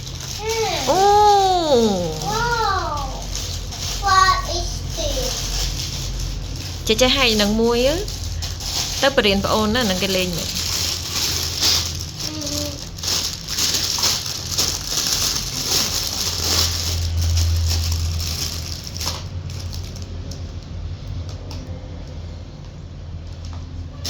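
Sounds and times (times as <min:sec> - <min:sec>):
small rattles: 0:00.0 - 0:20.1
plastic and paper crinkling: 0:00.0 - 0:20.6.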